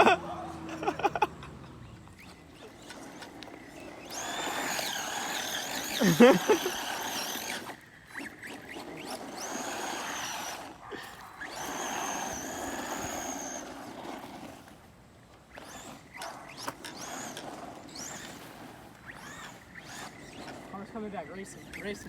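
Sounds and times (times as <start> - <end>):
toy car motor whining: 0.0 - 22.0.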